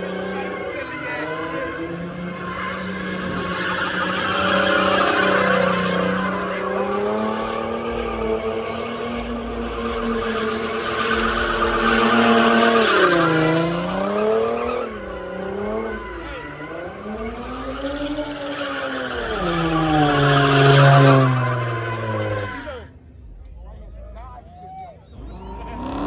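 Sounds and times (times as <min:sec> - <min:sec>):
car engine revving: 0:00.0 - 0:22.9, 0:25.2 - 0:26.0.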